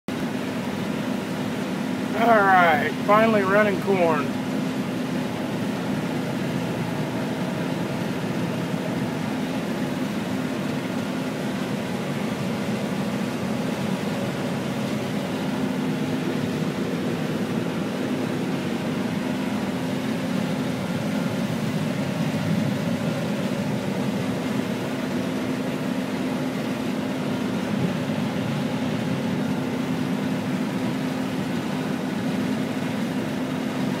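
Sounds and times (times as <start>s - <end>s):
combine harvester droning: 0.1s - 34.0s.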